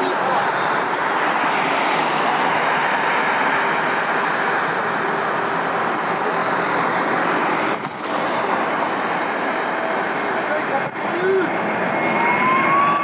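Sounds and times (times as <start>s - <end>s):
jet engines at high thrust: 0.0s - 13.0s.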